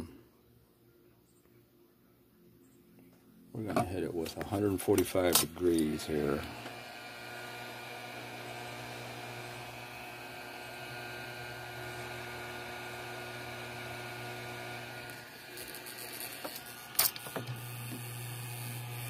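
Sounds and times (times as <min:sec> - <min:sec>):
hot air blower humming: 0:03.6 - 0:19.0.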